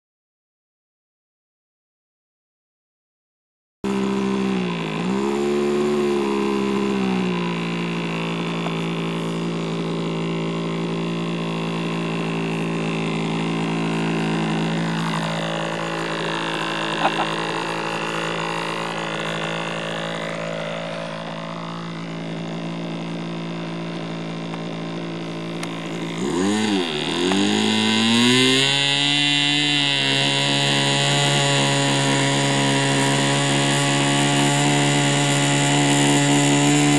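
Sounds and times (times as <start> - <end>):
model aeroplane engine running: 3.9 - 36.9.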